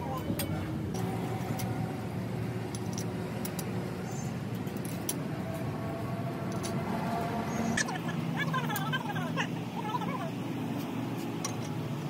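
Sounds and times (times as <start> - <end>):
engine-like hum: 0.0 - 12.0.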